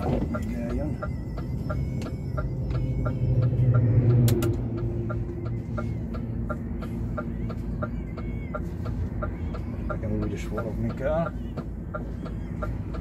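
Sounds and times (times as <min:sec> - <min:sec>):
diesel engine idling: 0:00.0 - 0:13.0
turn signal ticking: 0:00.0 - 0:13.0.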